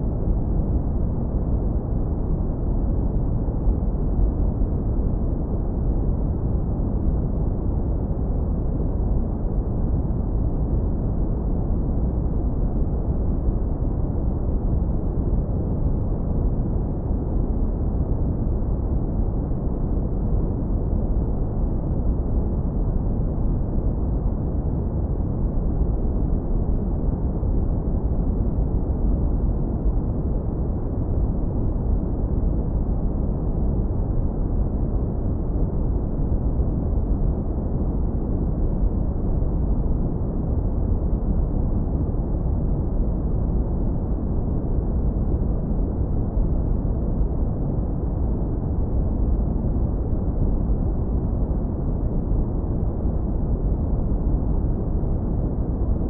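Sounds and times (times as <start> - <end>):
deep brown noise rumble: 0.0 - 56.0.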